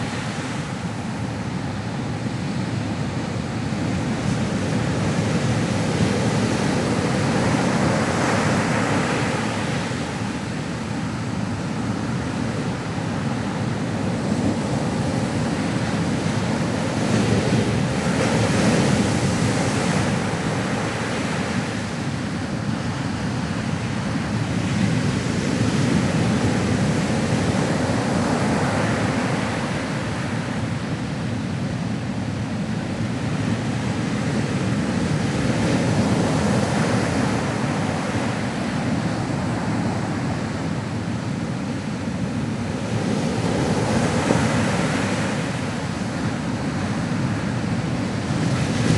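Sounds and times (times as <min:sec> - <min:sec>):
waves breaking on shore: 0:00.0 - 0:48.9.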